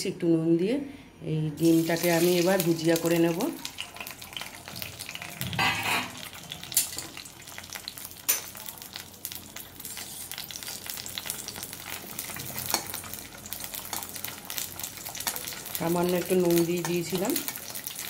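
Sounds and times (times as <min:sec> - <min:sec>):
eggs sizzling in oil: 0:01.6 - 0:18.0.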